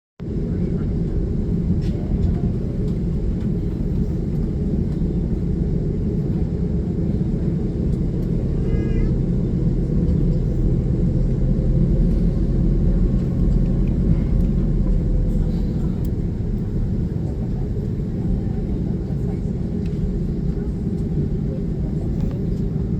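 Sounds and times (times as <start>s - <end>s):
jet engine rumble in cabin: 0.2s - 22.9s.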